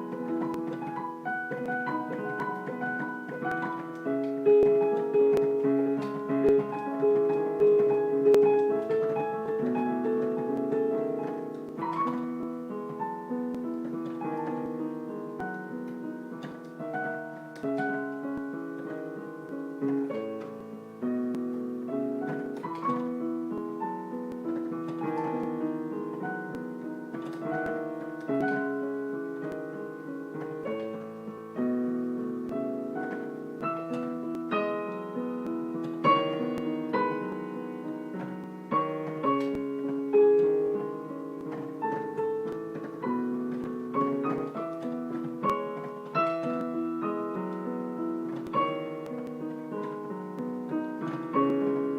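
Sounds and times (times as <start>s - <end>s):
slow piano music: 0.0s - 51.9s.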